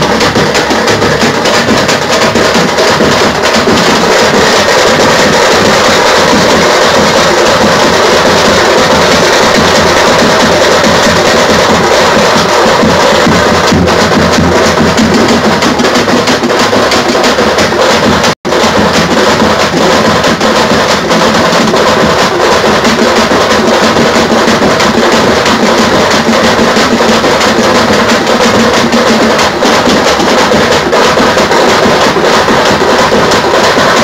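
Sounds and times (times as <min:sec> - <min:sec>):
bass drums: 0:00.0 - 0:34.0
frame drum band: 0:00.0 - 0:34.0.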